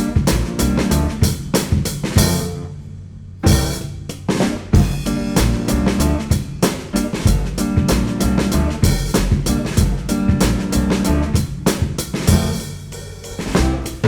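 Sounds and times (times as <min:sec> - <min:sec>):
drum kit beat: 0:00.0 - 0:02.6, 0:03.4 - 0:14.0
band playing instrumental: 0:00.0 - 0:02.7, 0:03.4 - 0:14.0.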